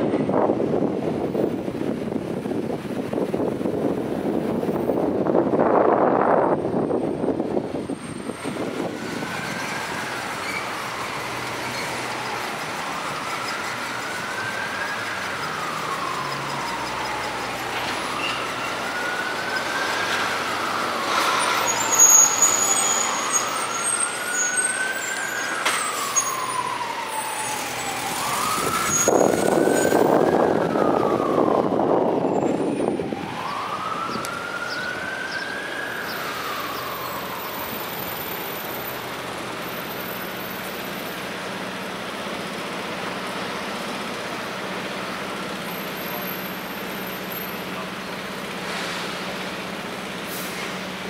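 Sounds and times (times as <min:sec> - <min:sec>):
city street traffic: 0:00.0 - 0:51.0
emergency siren wailing: 0:04.4 - 0:50.2.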